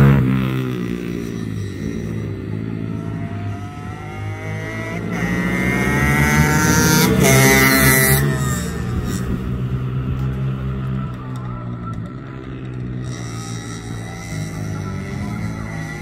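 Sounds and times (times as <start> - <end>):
racing motorcycle accelerating past: 0.0 - 16.0.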